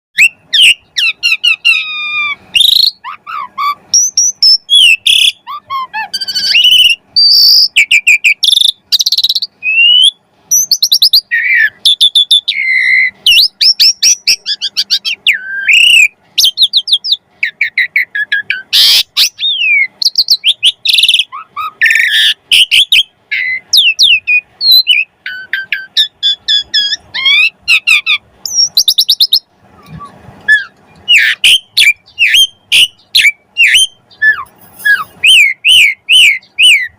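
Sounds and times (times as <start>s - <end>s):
starling singing: 0.2s - 36.9s.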